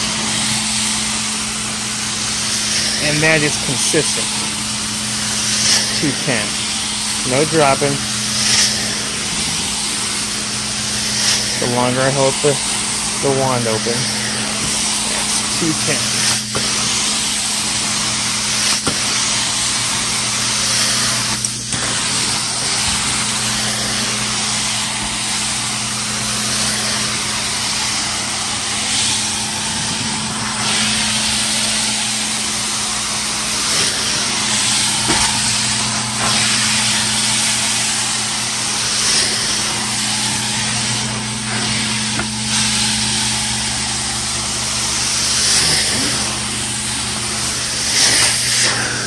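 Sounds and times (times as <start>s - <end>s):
hissing water spray: 0.0s - 49.0s
steady low hum: 0.0s - 49.0s
vacuum suction roar: 0.0s - 49.0s.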